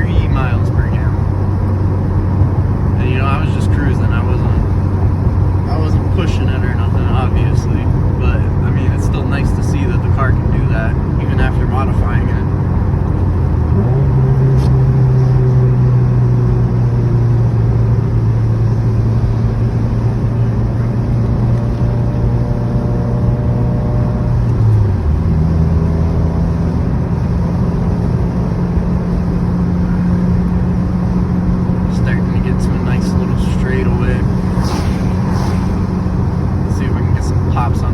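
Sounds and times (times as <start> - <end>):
car engine cruising: 0.0 - 37.9
road noise: 0.0 - 37.9.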